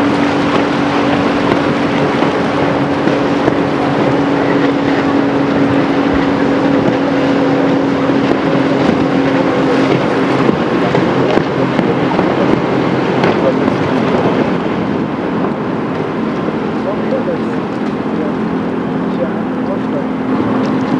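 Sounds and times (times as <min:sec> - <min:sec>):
rushing noise: 0:00.0 - 0:20.9
speedboat engine drone: 0:00.0 - 0:20.9.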